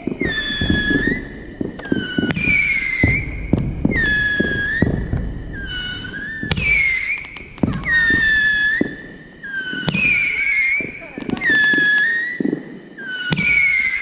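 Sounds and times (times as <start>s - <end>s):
fireworks popping and crackling: 0.0s - 14.0s
whistling fireworks: 0.0s - 14.0s.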